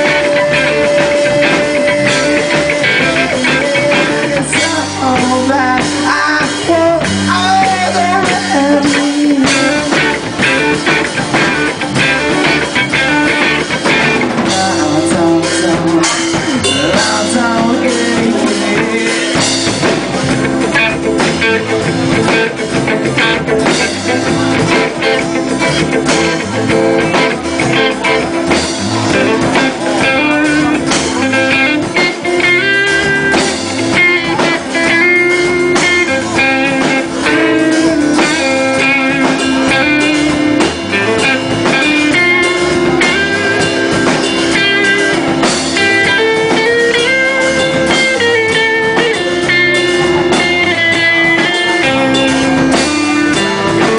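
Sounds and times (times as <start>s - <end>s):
bass guitar: 0.0s - 53.9s
drums: 0.0s - 53.9s
electric guitar melody: 0.0s - 53.9s.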